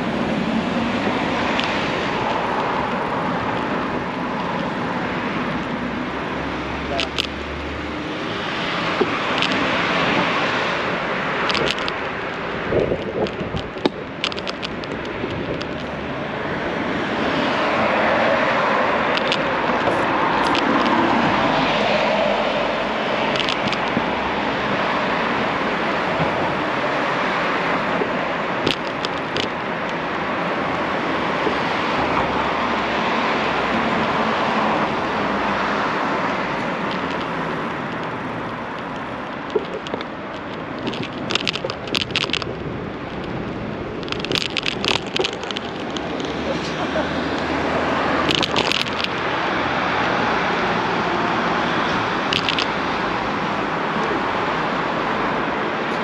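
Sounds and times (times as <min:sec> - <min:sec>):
passing traffic: 0:00.0 - 0:56.0.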